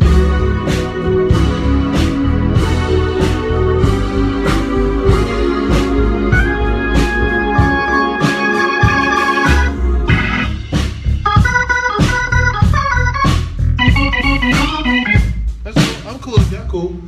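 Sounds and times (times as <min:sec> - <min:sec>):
organ chords: 0:00.0 - 0:16.0
drum hits: 0:00.0 - 0:16.9
bass: 0:00.0 - 0:17.0.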